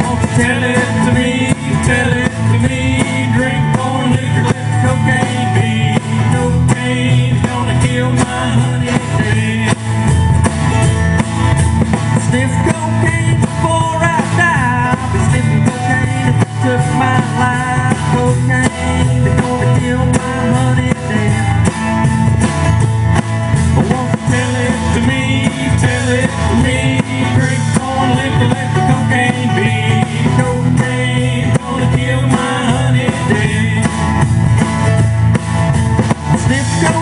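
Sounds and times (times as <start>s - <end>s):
acoustic guitar: 0.0s - 37.0s
banjo: 0.0s - 37.0s
drums: 0.0s - 37.0s
upright bass: 0.0s - 37.0s.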